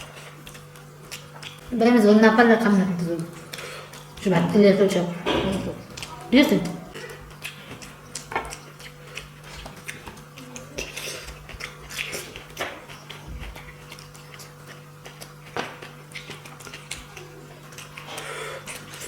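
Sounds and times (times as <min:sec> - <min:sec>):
chewing: 0:00.0 - 0:01.9, 0:03.1 - 0:19.0
steady low hum: 0:00.0 - 0:19.0.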